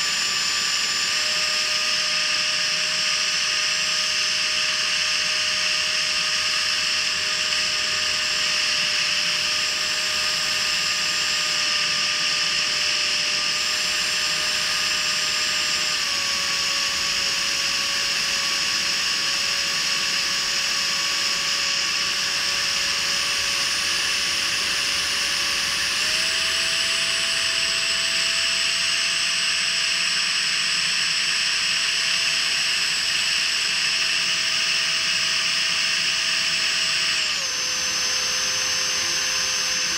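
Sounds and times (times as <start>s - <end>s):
electric fan motor whining: 0.0s - 39.9s.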